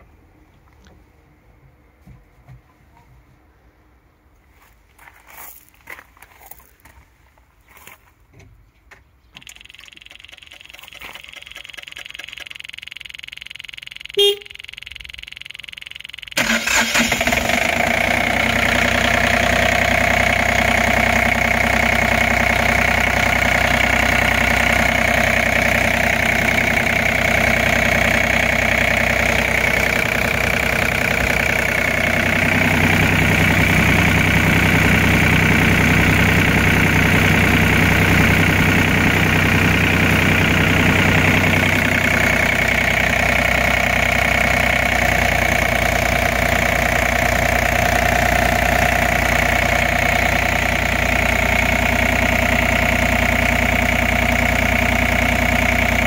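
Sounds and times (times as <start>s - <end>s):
diesel engine idling: 9.4s - 56.0s.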